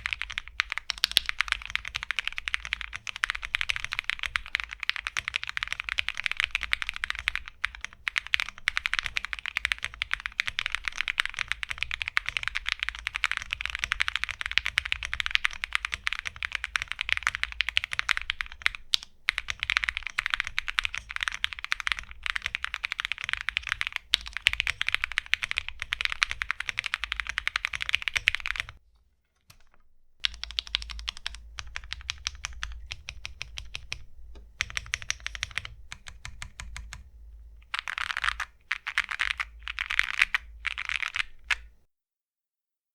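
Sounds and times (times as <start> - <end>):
mechanical keyboard typing: 0.0 - 28.8, 29.5 - 41.8.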